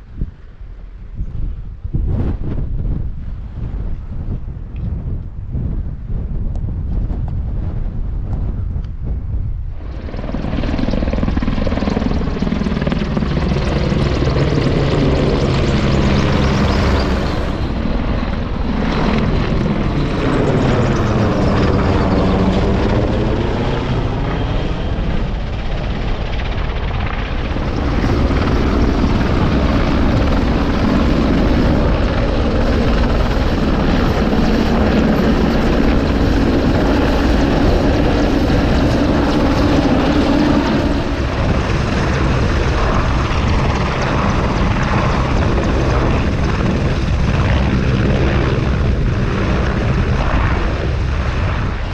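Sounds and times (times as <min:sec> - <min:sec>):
low-flying aircraft drone: 0:00.0 - 0:51.9
wind buffeting microphone: 0:00.0 - 0:51.9.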